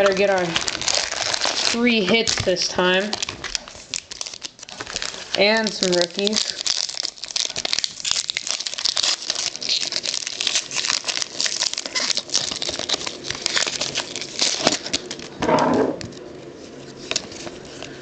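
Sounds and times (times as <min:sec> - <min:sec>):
wrapper tearing and crinkling: 0:00.0 - 0:15.4, 0:16.0 - 0:18.0.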